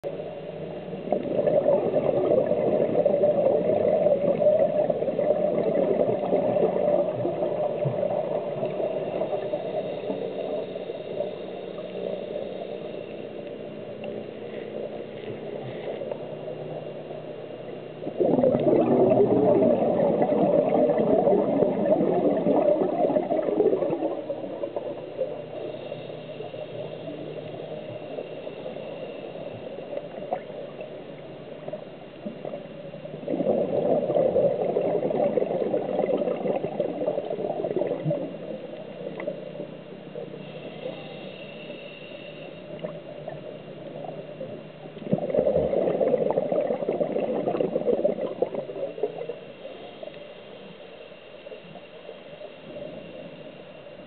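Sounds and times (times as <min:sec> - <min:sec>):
underwater exhaled bubbles: 0:00.0 - 0:13.2, 0:14.0 - 0:50.8.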